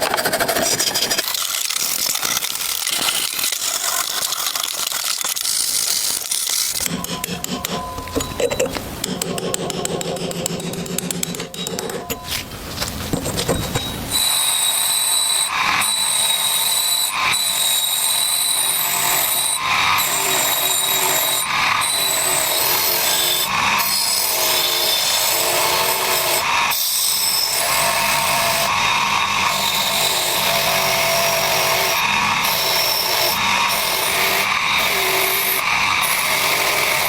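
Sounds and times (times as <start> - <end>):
power tool whining on metal: 0.0 - 37.0.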